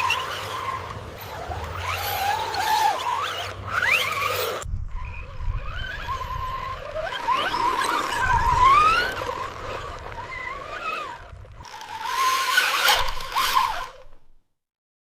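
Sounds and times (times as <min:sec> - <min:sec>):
gritty scraping: 0:00.0 - 0:14.4
small electric motors whining: 0:00.0 - 0:14.4.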